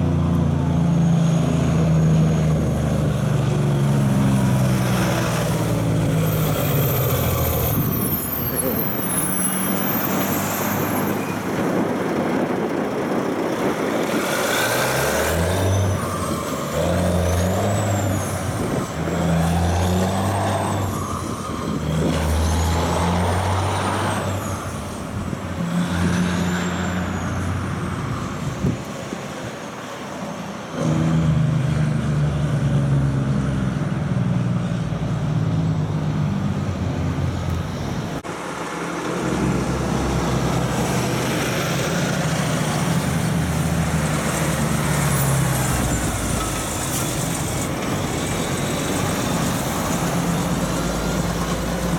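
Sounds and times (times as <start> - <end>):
heavy truck engine: 0.0 - 51.9
truck diesel engine shifting gears: 0.0 - 51.9.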